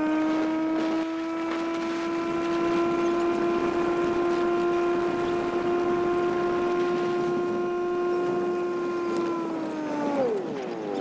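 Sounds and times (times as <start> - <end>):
tractor engine whining: 0.0 - 11.0.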